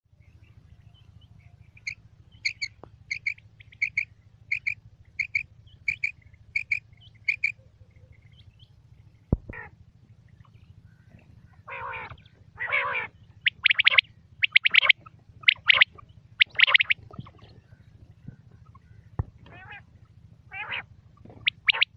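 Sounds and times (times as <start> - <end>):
quail calling: 1.4 - 8.5, 9.3 - 9.8, 10.4 - 21.9.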